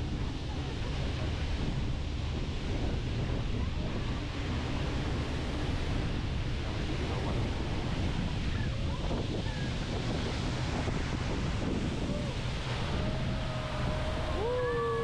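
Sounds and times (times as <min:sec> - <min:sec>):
water and surf: 0:00.0 - 0:15.0
wind noise on microphone: 0:00.0 - 0:15.0.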